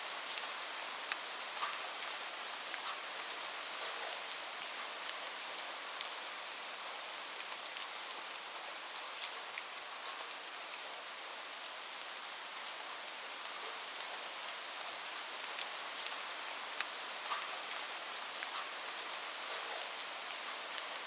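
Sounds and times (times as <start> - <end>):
rain drops ticking on surface: 0.0 - 21.0
rain falling: 0.0 - 21.0.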